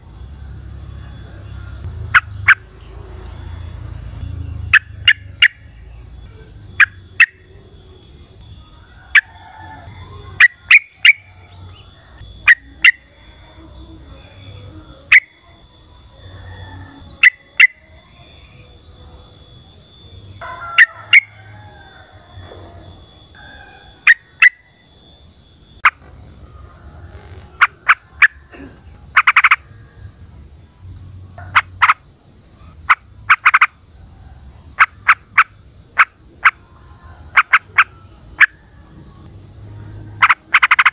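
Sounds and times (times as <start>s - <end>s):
pulsing insect chorus: 0.0s - 40.9s.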